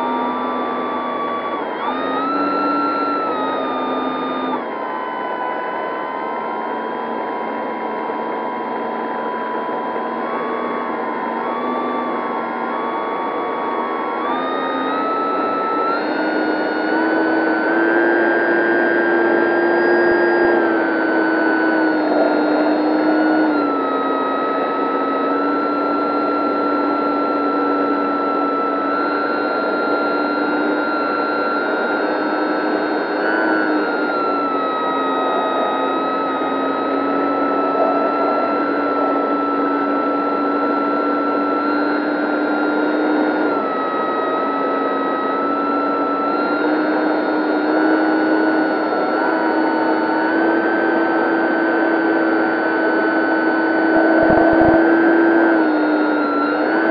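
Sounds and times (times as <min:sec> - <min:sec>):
electric motor and propeller whining: 0:00.0 - 0:56.9.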